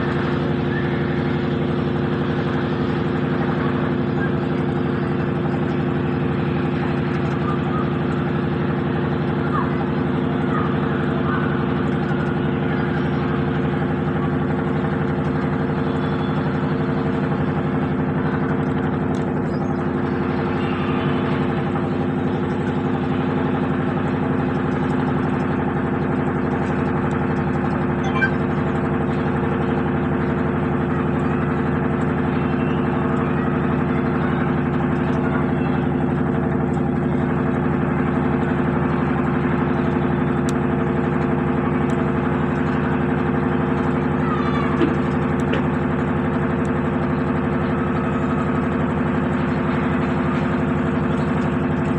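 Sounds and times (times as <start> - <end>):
washing machine humming: 0.0 - 51.9.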